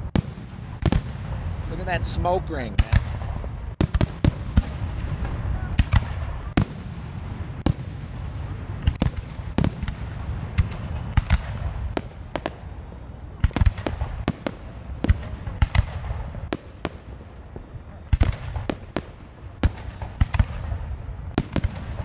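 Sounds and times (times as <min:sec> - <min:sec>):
fireworks bangs: 0:00.0 - 0:22.0
low rumble: 0:00.0 - 0:22.0.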